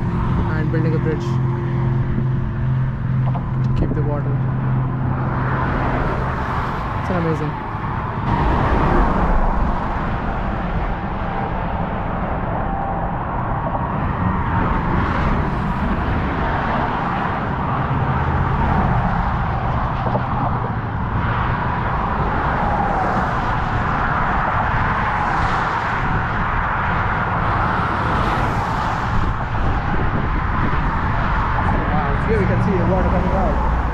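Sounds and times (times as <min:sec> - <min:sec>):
heavy low rumble: 0:00.0 - 0:33.9
road traffic on bridge: 0:00.0 - 0:33.9.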